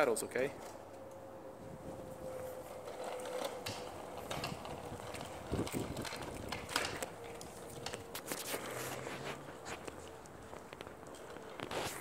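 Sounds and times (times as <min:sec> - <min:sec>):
bicycle wheels clicking and rattling: 0:01.8 - 0:12.0.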